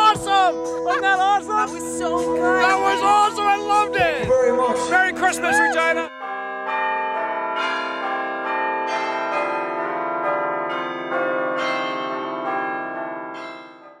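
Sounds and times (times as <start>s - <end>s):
bells chiming a tune: 0.0s - 14.0s.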